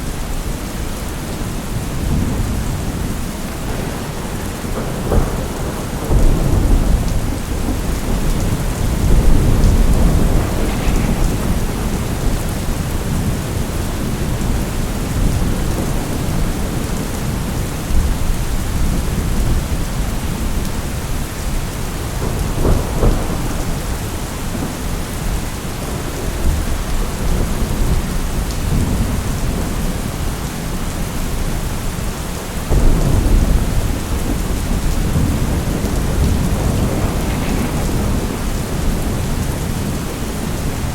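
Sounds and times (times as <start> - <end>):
steady rain falling: 0.0 - 40.9
low rolling thunder: 1.0 - 40.9.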